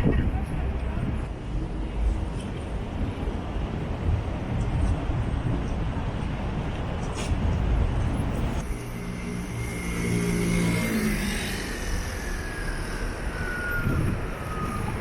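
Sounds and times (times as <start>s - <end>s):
train rumble and electric whine: 0.0s - 15.0s.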